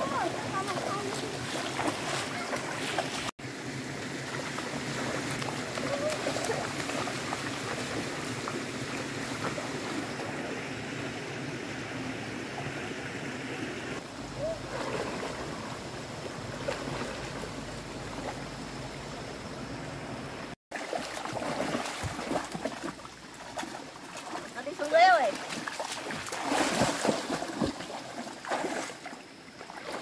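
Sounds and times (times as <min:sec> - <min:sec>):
water splashing from wading: 0:00.0 - 0:10.4, 0:13.6 - 0:19.3, 0:20.7 - 0:30.0
stream water flowing: 0:00.0 - 0:30.0.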